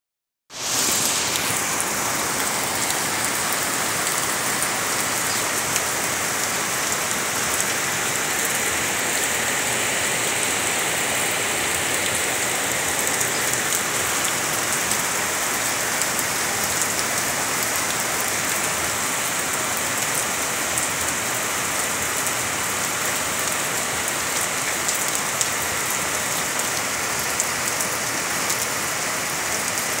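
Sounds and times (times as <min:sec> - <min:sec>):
rain falling steadily: 0:00.5 - 0:30.0.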